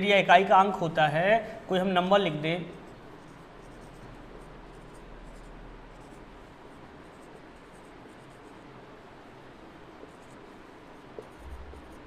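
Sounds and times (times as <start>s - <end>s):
marker pen writing on whiteboard: 0.4s - 12.0s.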